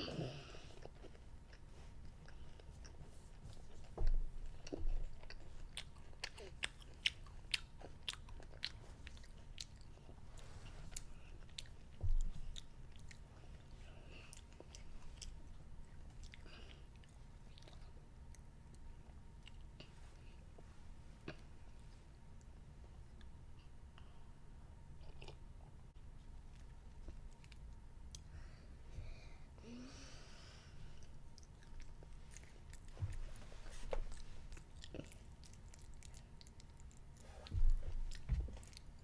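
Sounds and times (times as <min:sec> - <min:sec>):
child chewing: 0:00.0 - 0:20.6, 0:25.0 - 0:39.0.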